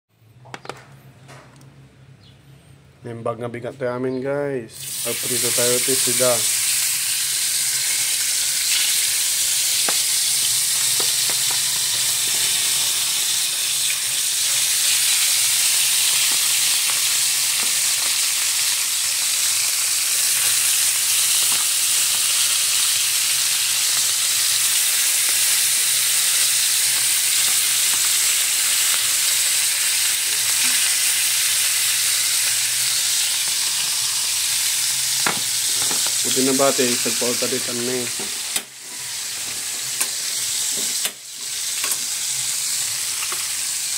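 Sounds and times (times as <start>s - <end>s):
fish sizzling in hot oil: 4.8s - 43.9s.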